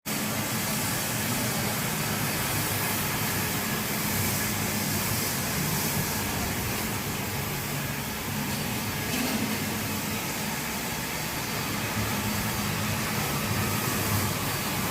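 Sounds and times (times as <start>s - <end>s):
floor scrubber motor hum: 0.1s - 14.9s
brush and suction hiss: 0.3s - 14.9s.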